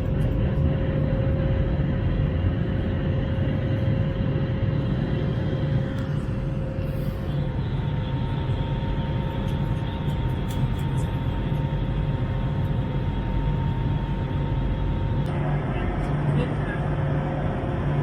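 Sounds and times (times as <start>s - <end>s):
faint steady whines: 0.0s - 18.0s
jet engine cabin rumble: 0.0s - 18.0s.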